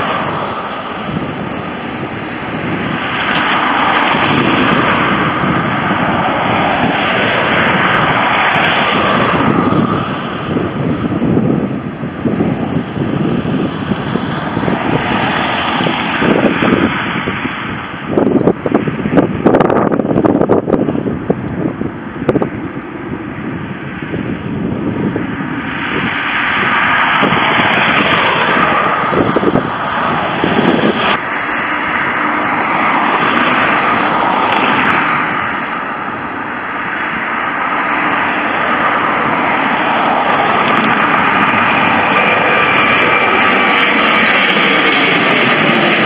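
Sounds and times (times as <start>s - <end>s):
airliner passing low overhead: 0.0s - 46.0s
jet engines rushing: 0.0s - 46.0s.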